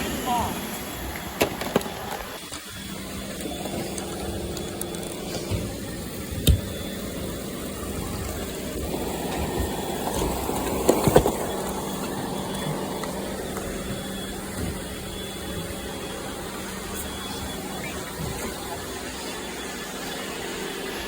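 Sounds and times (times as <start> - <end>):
robot vacuum motor and brush: 0.0 - 21.0.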